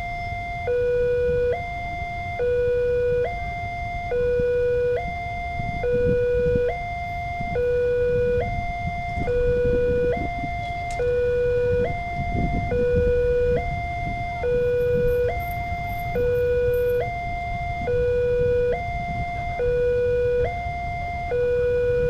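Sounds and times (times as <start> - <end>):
two-tone warning siren: 0.0 - 22.0.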